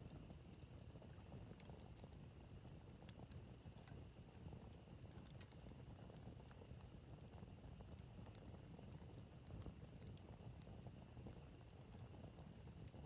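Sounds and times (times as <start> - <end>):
campfire crackling: 0.1 - 13.0.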